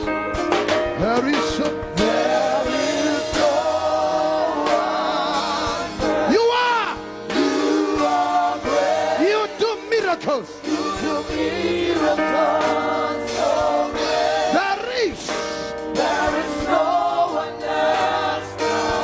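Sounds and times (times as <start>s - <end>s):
instrumental backing: 0.0s - 19.0s
voices singing praise song: 1.9s - 19.0s.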